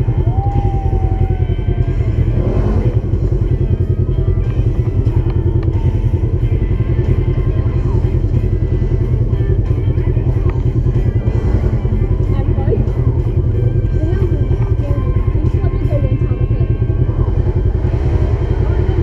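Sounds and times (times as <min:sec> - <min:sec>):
music: 0:00.0 - 0:19.0
vehicle engine running: 0:00.0 - 0:19.0.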